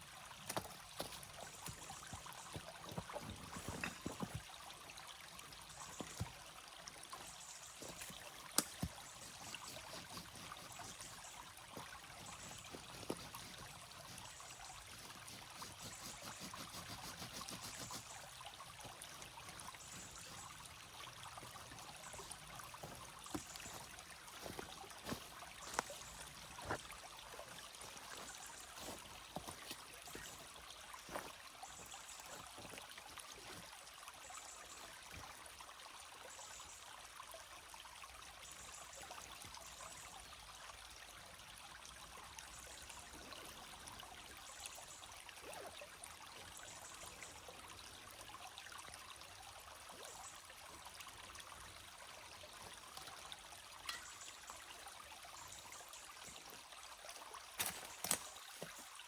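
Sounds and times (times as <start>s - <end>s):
stream trickling and flowing: 0.0s - 59.0s.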